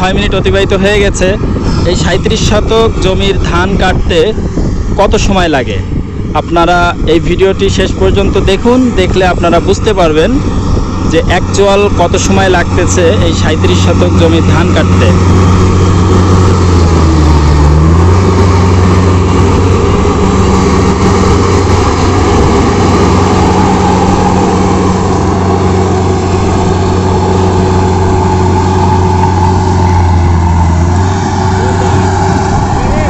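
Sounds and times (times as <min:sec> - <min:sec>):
combine harvester diesel engine: 0:00.0 - 0:33.0.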